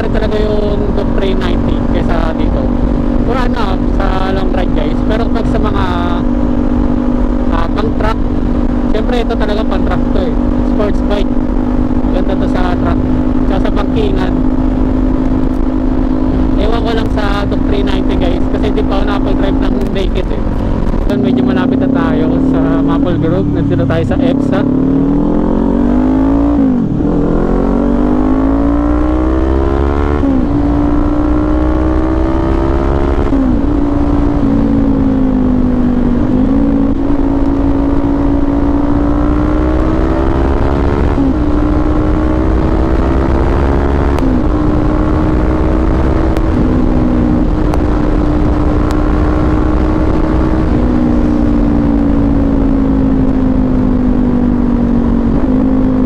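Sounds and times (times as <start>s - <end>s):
low wind rumble: 0.0s - 56.0s
motorcycle engine: 0.0s - 56.0s.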